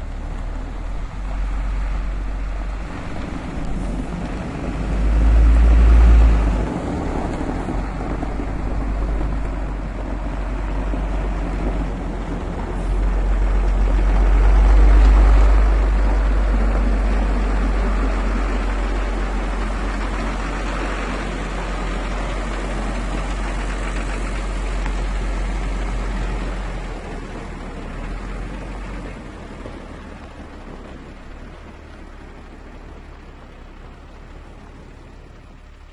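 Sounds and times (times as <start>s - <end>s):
truck engine pulling away: 0.0s - 35.9s.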